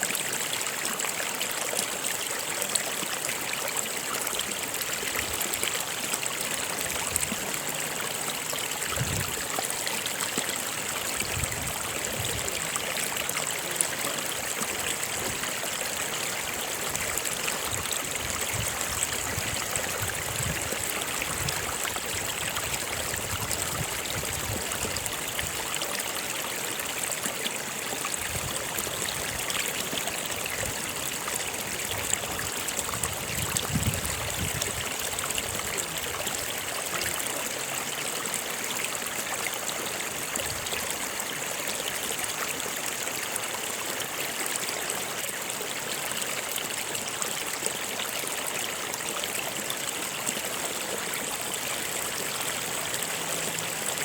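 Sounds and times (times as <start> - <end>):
stream of water running: 0.0 - 54.0.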